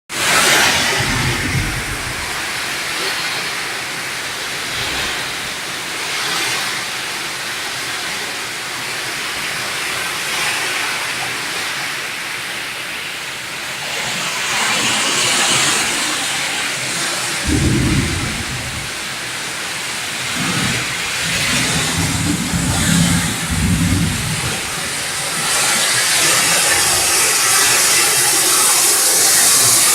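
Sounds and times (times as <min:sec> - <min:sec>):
heavy rain in strong wind: 0:00.1 - 0:29.9.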